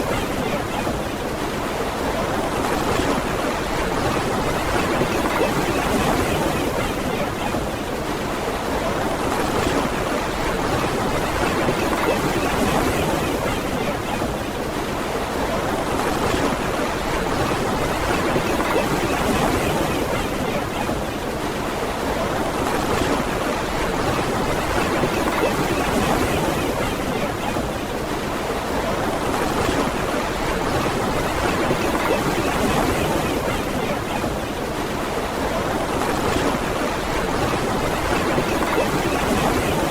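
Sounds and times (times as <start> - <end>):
ocean surf washing ashore: 0.0 - 39.9.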